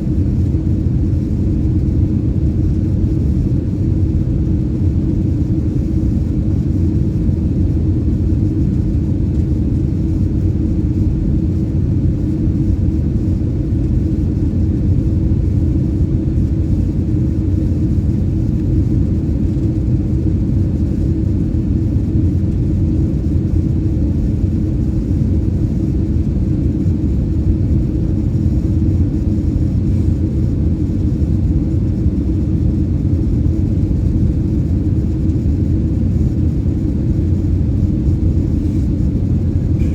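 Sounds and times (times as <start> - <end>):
airplane cabin rumble in flight: 0.0 - 39.9.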